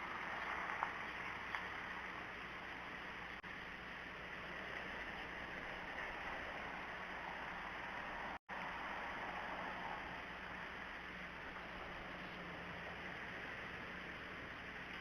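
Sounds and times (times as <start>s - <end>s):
faint low electrical hum: 0.0s - 15.0s
outdoor background hiss: 0.0s - 15.0s.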